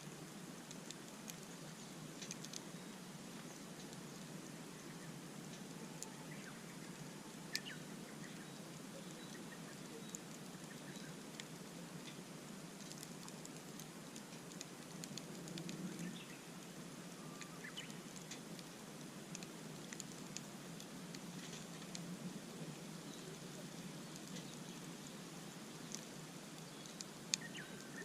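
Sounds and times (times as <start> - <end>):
campfire crackling and popping: 0.0 - 28.0
small birds chirping: 0.7 - 18.4, 21.1 - 28.0.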